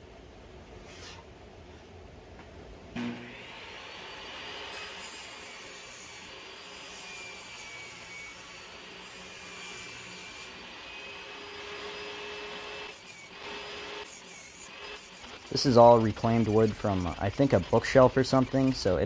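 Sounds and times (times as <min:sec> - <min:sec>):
table saw cutting wood: 0:03.0 - 0:19.0.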